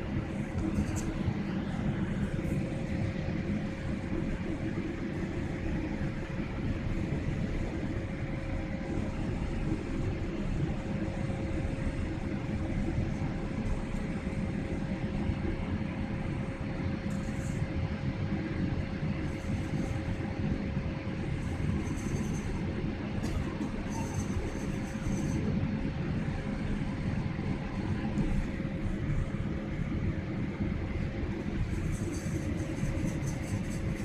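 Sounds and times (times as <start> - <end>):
constant hum: 0.0 - 34.0
jet engine cabin rumble: 0.0 - 34.0.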